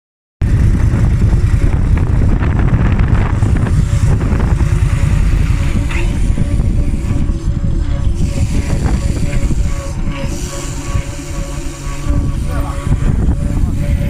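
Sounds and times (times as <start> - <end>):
motorcycle engine rumbling: 0.4 - 14.0.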